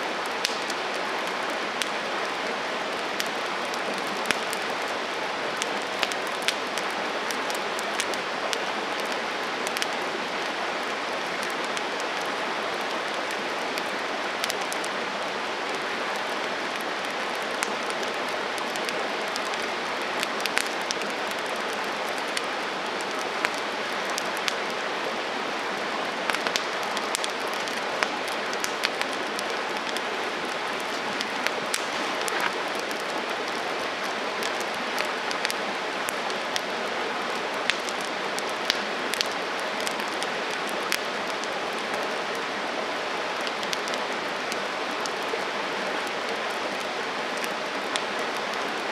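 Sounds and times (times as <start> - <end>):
campfire hissing: 0.0 - 48.9
burning wood crackling and popping: 0.1 - 24.8, 26.0 - 42.4, 43.4 - 48.6.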